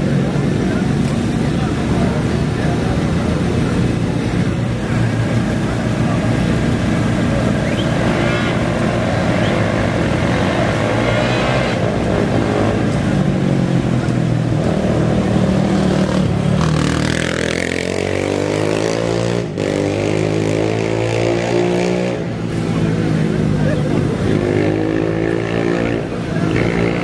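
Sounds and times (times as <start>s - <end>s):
race engines running: 0.0s - 27.0s
vehicle accelerating away: 0.0s - 27.0s.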